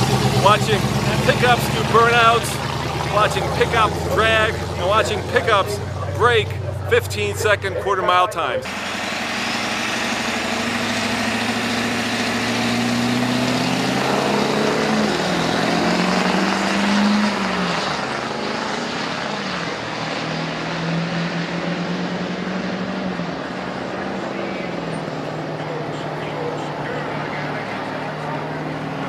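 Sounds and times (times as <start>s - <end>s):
pickup truck engine accelerating: 0.0s - 29.0s.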